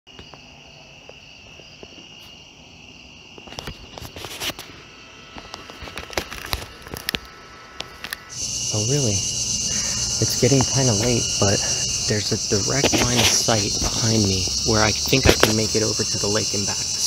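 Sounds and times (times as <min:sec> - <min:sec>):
crickets trilling: 0:00.1 - 0:17.0.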